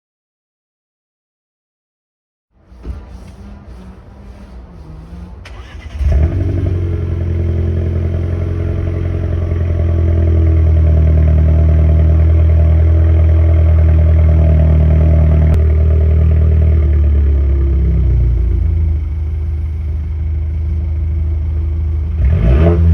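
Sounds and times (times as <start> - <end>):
car engine idling: 2.6 - 22.9.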